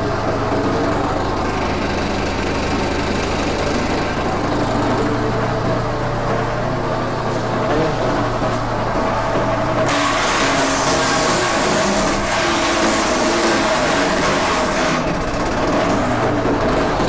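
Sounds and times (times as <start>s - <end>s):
small petrol engine running: 0.0s - 17.0s.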